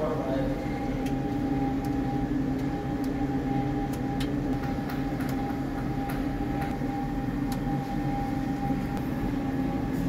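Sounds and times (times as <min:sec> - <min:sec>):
two-tone mechanical hum: 0:00.0 - 0:10.0.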